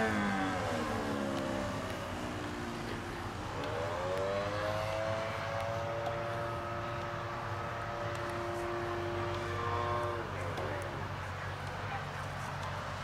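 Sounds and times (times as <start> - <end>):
model airplane engine running: 0.0 - 13.0.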